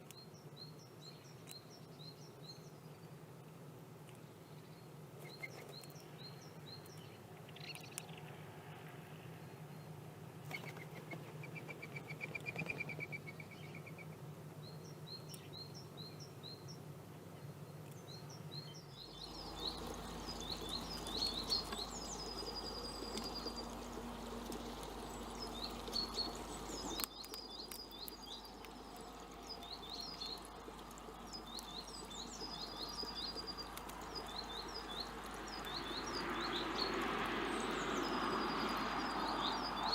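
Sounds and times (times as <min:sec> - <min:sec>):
songbirds singing and chirping: 0:00.0 - 0:03.4, 0:04.0 - 0:08.5, 0:09.3 - 0:39.9
faint low hum: 0:00.0 - 0:39.9.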